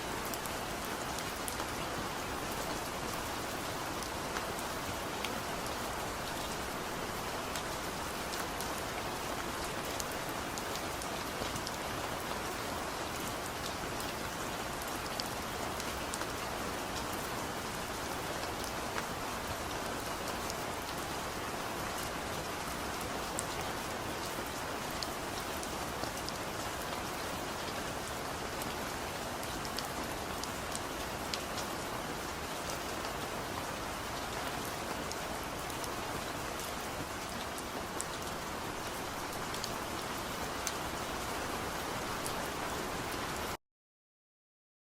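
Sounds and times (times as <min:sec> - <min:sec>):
heavy rain falling: 0:00.0 - 0:43.6
raindrops ticking on a surface: 0:00.3 - 0:43.6.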